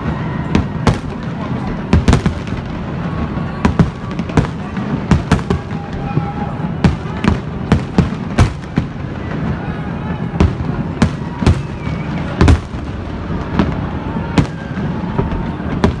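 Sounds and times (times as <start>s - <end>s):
fireworks bangs: 0.0s - 16.0s
fireworks rumble and crackle: 0.0s - 16.0s.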